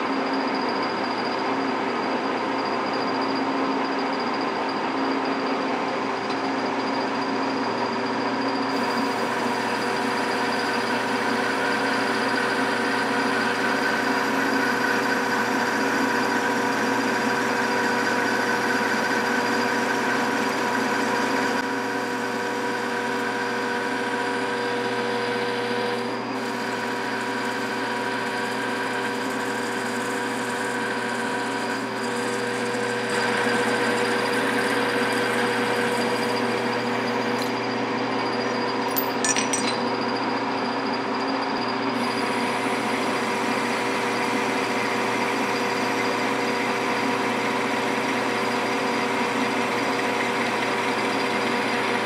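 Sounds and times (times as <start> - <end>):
lathe gear whine: 0.0 - 52.0.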